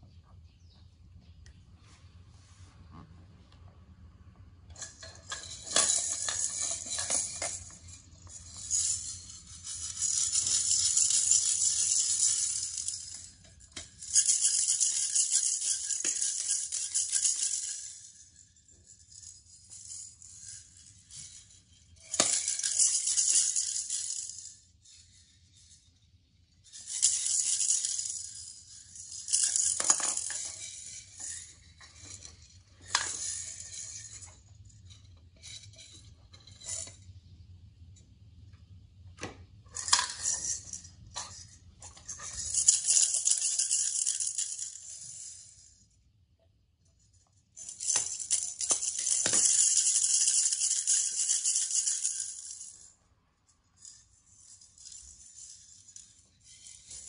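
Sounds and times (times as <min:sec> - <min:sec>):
toy maracas rattling: 0:04.7 - 0:37.1, 0:39.7 - 0:45.8, 0:47.4 - 0:52.9, 0:53.7 - 0:57.0.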